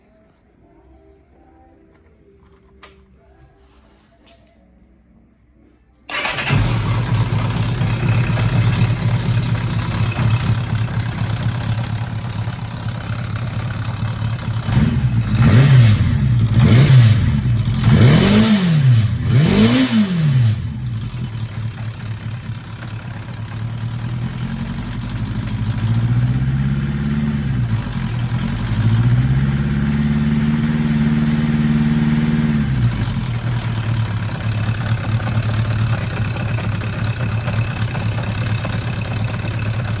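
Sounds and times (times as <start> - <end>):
motorcycle engine idling: 6.1 - 40.0
motorcycle throttle blips: 6.1 - 40.0.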